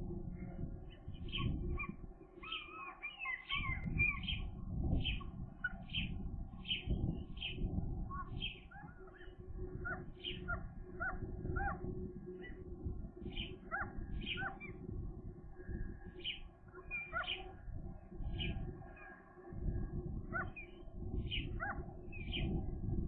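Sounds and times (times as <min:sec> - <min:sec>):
gulls calling: 0:00.4 - 0:19.6, 0:20.3 - 0:22.6.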